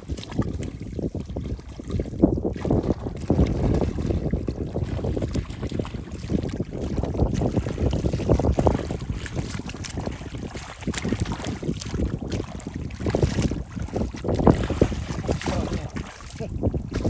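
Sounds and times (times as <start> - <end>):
shallow water sloshing: 0.0 - 17.0
wind buffeting microphone: 0.0 - 17.0.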